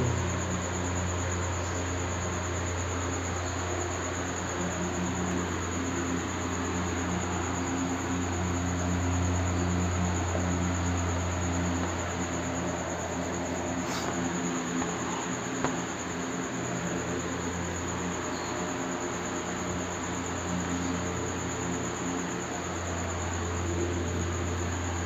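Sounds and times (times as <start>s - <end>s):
high-pitched whine: 0.0s - 25.0s
low electrical hum: 0.0s - 25.0s.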